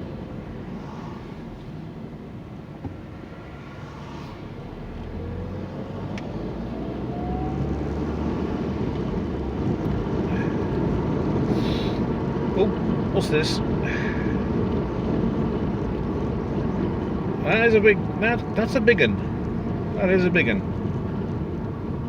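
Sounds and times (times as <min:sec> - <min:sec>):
car engine: 0:00.0 - 0:22.0
road noise inside car: 0:00.0 - 0:22.0.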